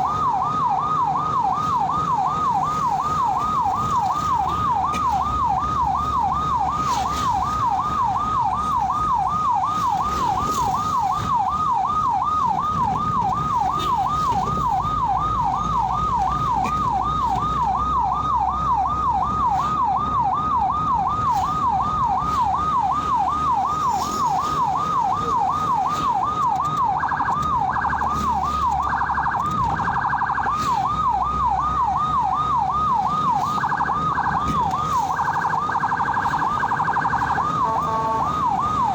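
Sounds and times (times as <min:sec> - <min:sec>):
ambulance siren wailing: 0:00.0 - 0:38.9
vehicle rumble: 0:00.0 - 0:38.9.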